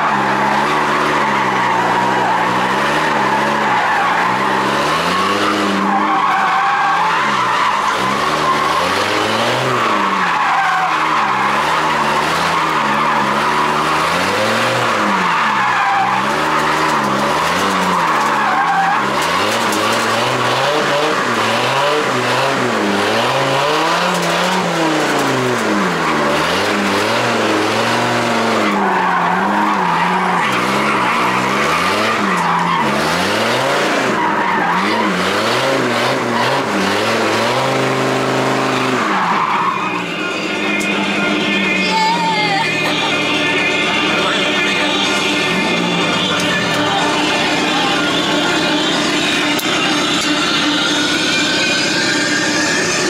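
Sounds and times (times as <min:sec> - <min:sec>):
car engine revving: 0:00.0 - 0:53.0
tyres squealing: 0:00.0 - 0:53.0.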